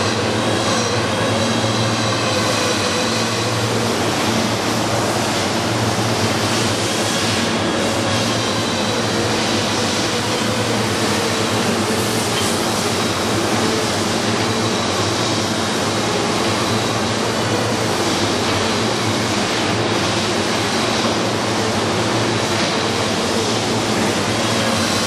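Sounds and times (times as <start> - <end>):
industrial machinery humming: 0.0 - 25.0.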